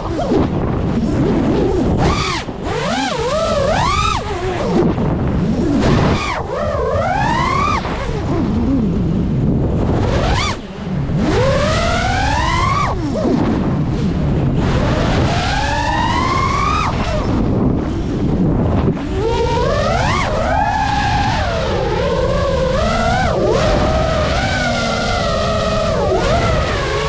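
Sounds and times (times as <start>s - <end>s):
quadcopter motors whining: 0.0s - 27.0s
wind rush on microphone: 0.0s - 27.0s.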